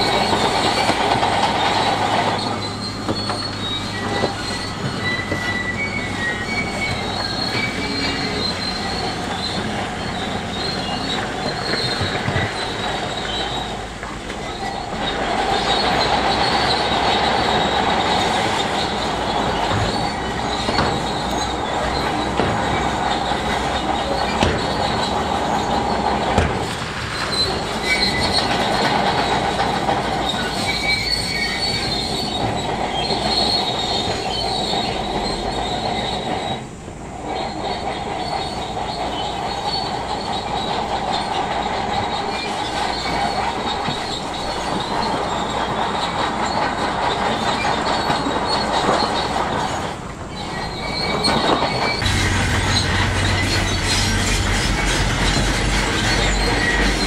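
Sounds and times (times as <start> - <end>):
bulldozer engine running: 0.0 - 57.0
steel tracks squealing and grinding: 0.0 - 57.0.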